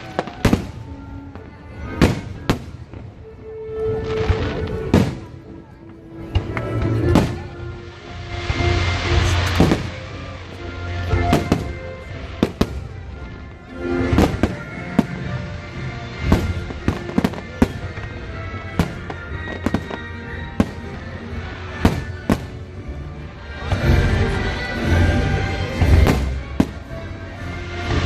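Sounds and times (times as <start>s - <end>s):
fireworks bangs and crackling: 0.0s - 28.0s
music playing: 0.0s - 28.0s.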